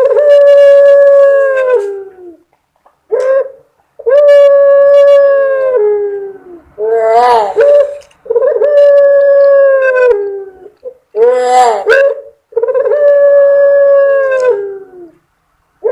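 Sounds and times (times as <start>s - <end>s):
dove cooing: 0.0s - 2.4s, 3.1s - 15.2s.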